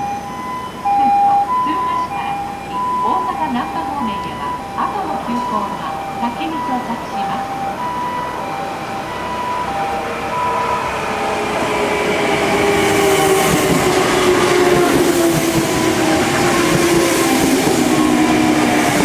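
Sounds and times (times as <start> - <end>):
train humming tone falling in pitch: 0.0 - 19.0
wheels rumbling on rails: 0.0 - 19.0.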